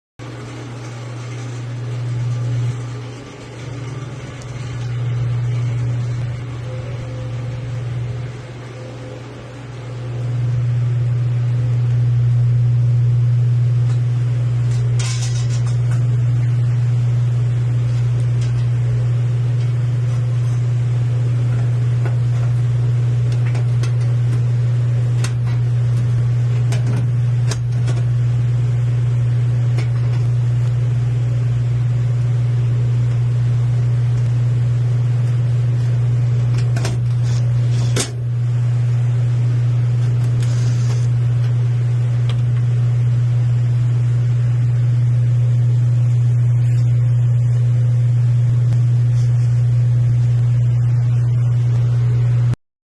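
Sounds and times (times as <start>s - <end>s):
steady low hum: 0.2s - 52.6s.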